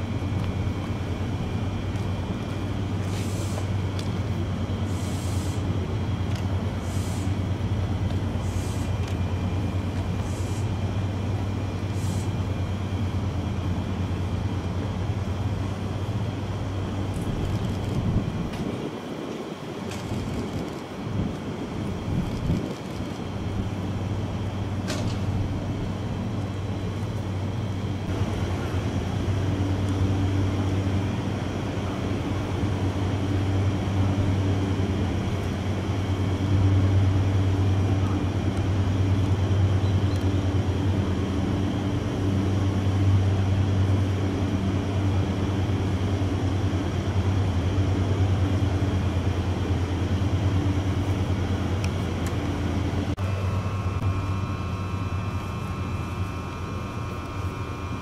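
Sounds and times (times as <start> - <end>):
electric train hum: 0.0 - 58.0.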